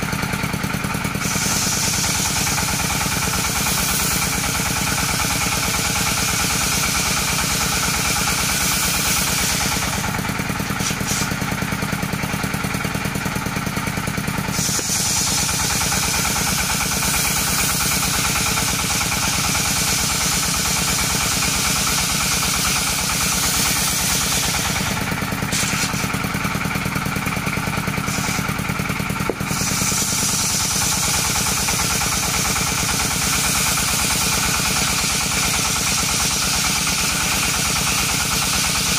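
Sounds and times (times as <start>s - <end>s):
circular saw cutting wood: 0.0s - 38.9s.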